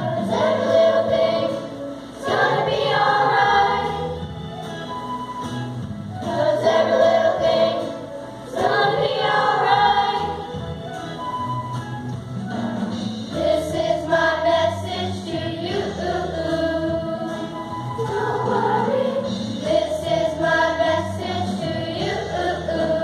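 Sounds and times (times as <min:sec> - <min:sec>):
children's choir singing: 0:00.0 - 0:05.2, 0:06.2 - 0:10.8, 0:12.9 - 0:23.0.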